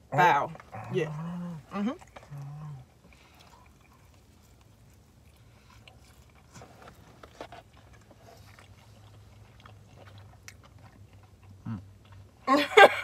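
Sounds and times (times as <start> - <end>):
low steady hum: 0.0 - 13.0
person chewing food: 0.5 - 12.5.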